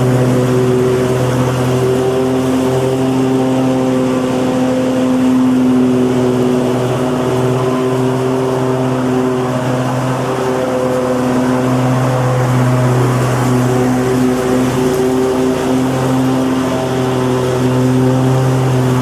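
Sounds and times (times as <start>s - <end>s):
lawnmower engine running: 0.0s - 19.0s.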